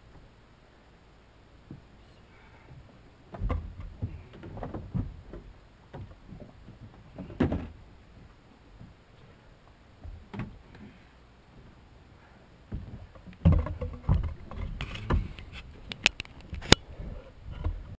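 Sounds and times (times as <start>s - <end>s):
bumps and thumps in boat: 1.6s - 18.0s.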